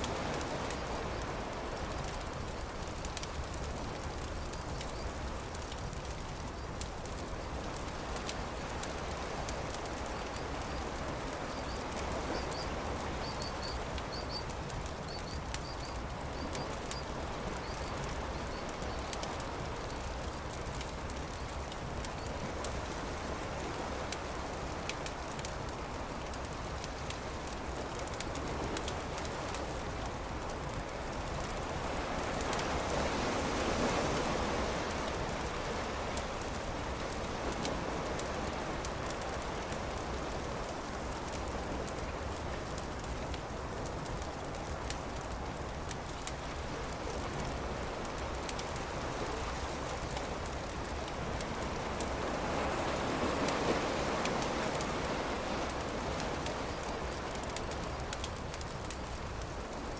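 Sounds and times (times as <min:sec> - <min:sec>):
campfire crackling: 0:00.0 - 0:59.9
surf washing: 0:00.0 - 0:59.9.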